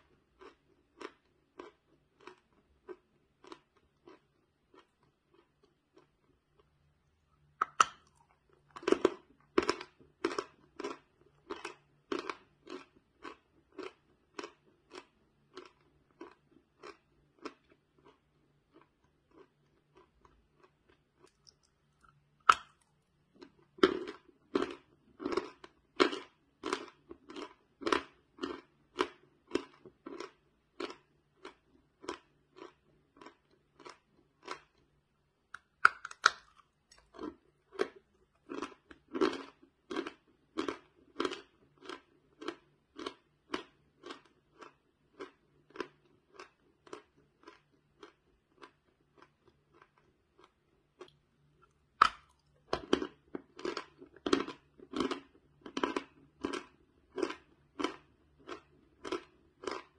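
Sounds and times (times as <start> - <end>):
crunchy chewing: 0.0 - 34.9, 35.6 - 59.9.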